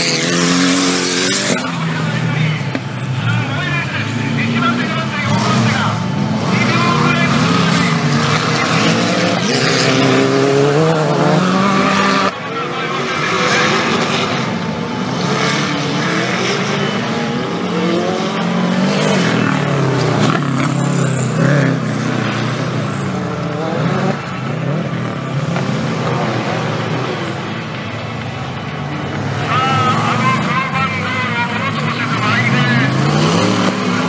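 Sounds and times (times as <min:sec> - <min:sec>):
off-road engines revving: 0:00.0 - 0:34.0.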